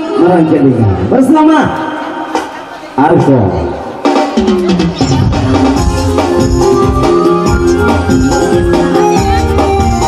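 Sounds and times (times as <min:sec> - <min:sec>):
loud melodic music with bass: 0:00.0 - 0:10.0.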